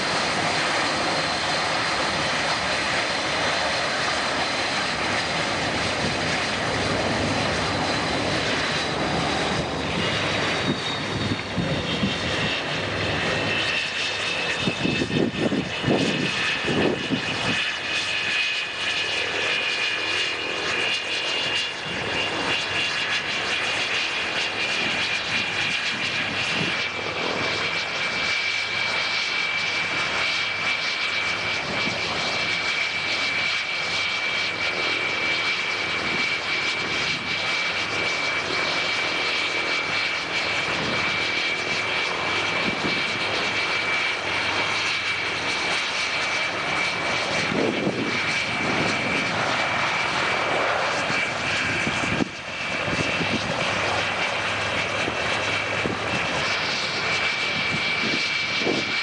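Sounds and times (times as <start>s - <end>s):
jet engines whining: 0.0s - 59.0s
propeller aircraft taxiing: 0.0s - 59.0s.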